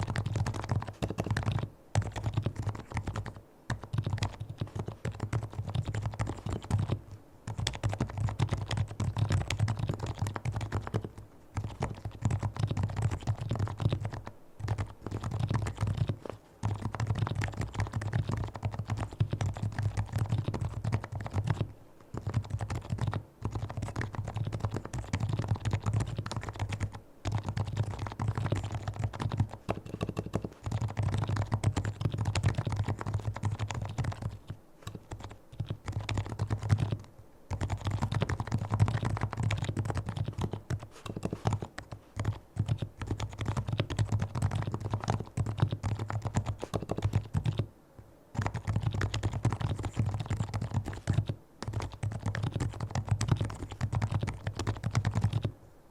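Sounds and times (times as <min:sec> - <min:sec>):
fast keyboard typing: 0:00.0 - 0:47.7, 0:48.4 - 0:55.5.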